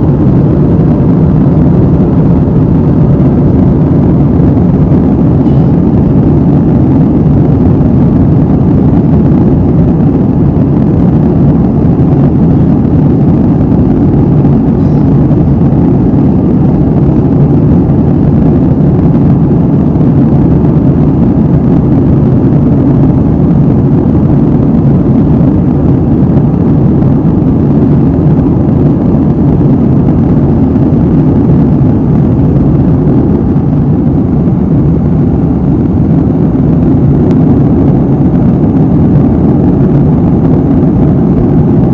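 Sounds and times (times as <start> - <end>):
airliner cabin drone: 0.0 - 41.9.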